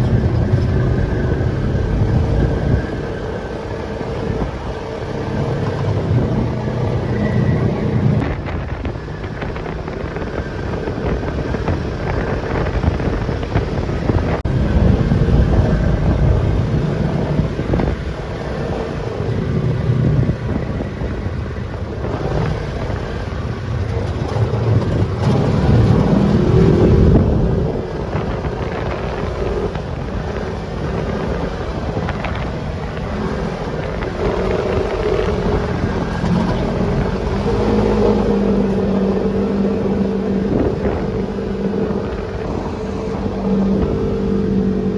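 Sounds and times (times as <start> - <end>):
off-road vehicle engine revving: 0.0 - 44.9
wind buffeting microphone: 0.0 - 44.9.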